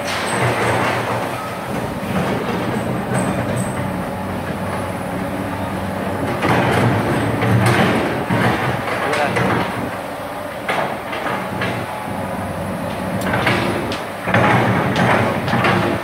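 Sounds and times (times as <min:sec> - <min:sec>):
excavator diesel engine and hydraulics: 0:00.0 - 0:16.0.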